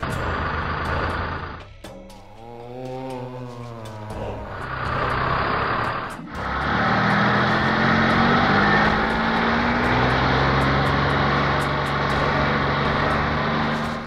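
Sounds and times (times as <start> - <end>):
truck engine running: 0.0 - 14.0
rushing noise: 2.4 - 14.0.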